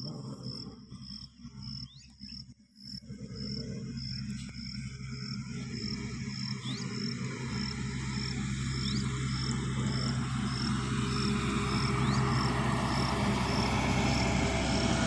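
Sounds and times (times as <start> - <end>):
cricket chirping: 0.0 - 15.0
steady low drone: 0.0 - 15.0.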